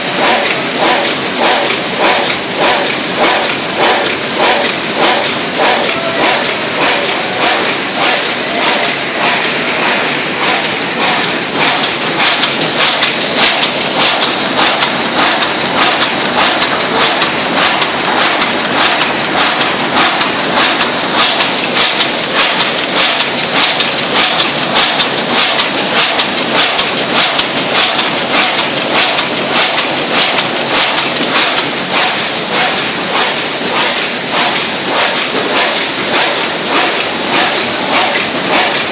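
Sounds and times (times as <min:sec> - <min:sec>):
die-cutting machine clatter: 0:00.0 - 0:38.9.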